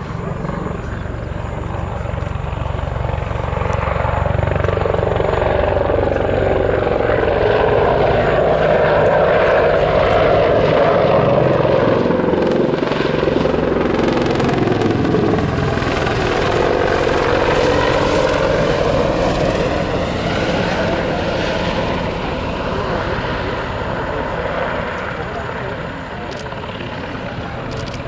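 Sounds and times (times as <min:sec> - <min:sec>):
helicopter rotor beating: 0:00.0 - 0:28.0.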